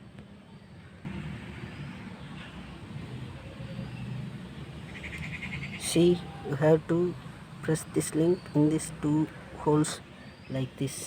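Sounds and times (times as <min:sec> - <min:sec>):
vehicle engine rumble passing: 0:00.0 - 0:11.0.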